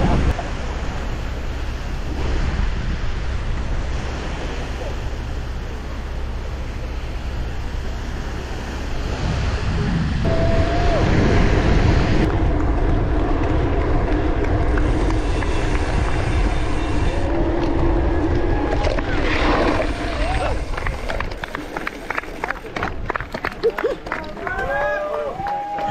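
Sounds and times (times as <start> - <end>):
waves washing on shore: 0.0 - 23.1
bicycle tyres rolling on road: 0.0 - 25.9
wind noise on microphone: 0.0 - 25.9.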